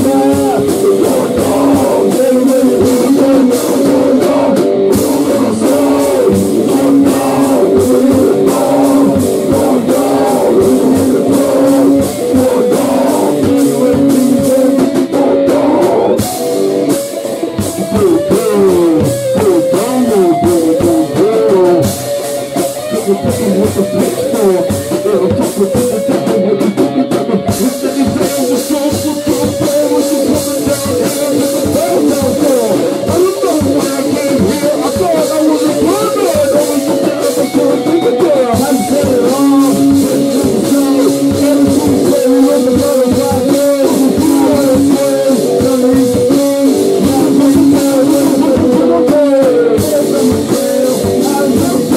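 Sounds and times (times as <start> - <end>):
instrumental rock music: 0.0 - 51.9.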